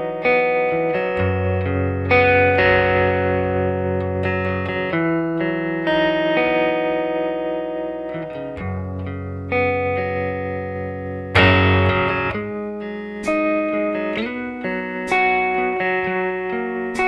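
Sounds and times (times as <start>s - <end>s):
plucked guitar music: 0.0s - 17.0s.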